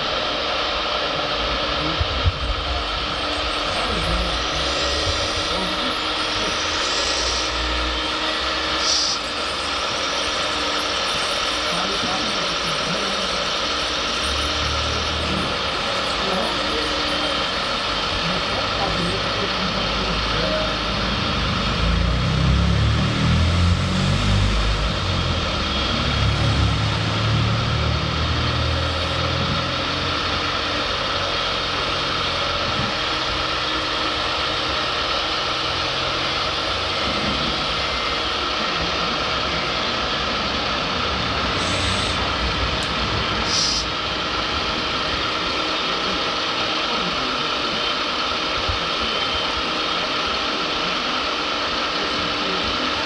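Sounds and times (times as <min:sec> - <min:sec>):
mechanical engine-like hum: 0:00.0 - 0:53.0.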